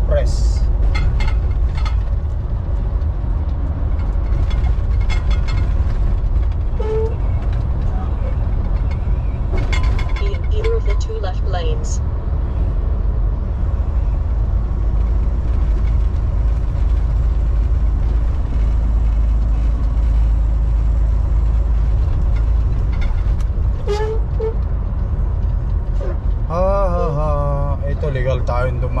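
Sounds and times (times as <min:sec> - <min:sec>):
truck engine and tyres rumbling: 0:00.0 - 0:29.0.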